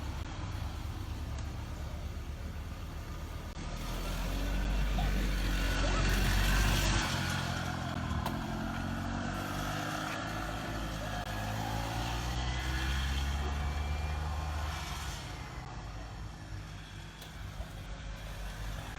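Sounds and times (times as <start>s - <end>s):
golf cart engine running: 0.0s - 18.9s.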